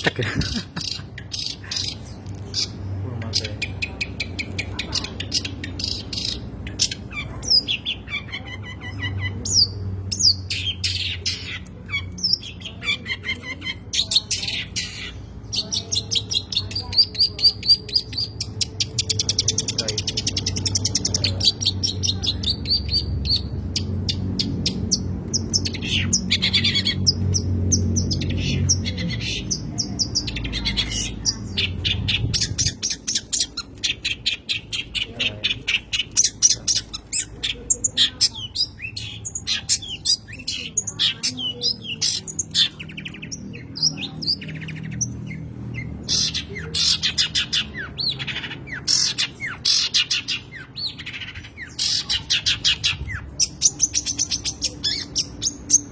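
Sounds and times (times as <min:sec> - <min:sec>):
bird chattering song: 0:00.0 - 0:55.9.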